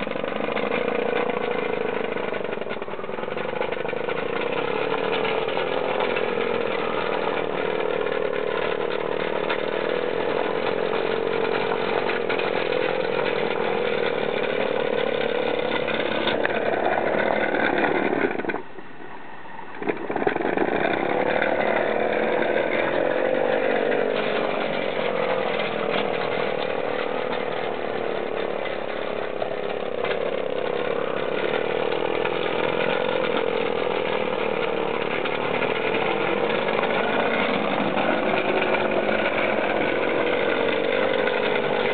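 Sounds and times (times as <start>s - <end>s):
model steam engine buzzing: 0.0s - 41.9s.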